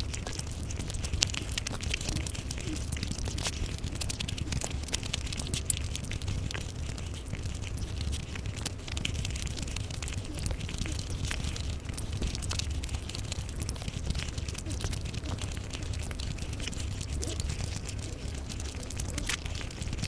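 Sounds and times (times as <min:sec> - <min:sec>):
low steady rumble: 0:00.0 - 0:20.0
person chewing food: 0:00.0 - 0:20.0.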